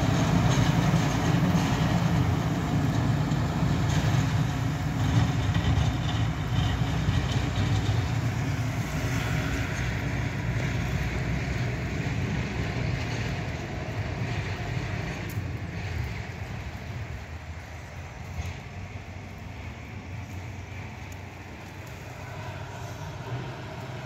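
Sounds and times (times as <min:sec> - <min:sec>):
tractor engine humming: 0:00.0 - 0:24.0.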